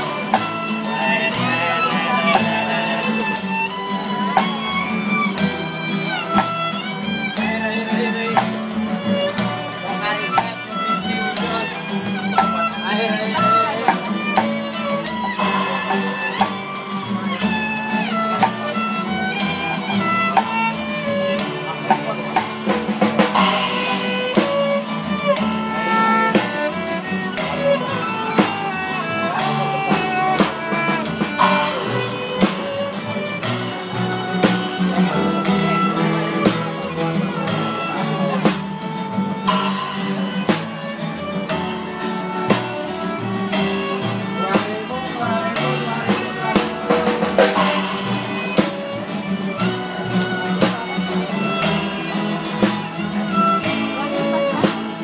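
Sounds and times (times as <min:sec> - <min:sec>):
acoustic guitar: 0:00.0 - 0:55.0
drum beat: 0:00.0 - 0:55.0
violin melody: 0:00.0 - 0:55.0.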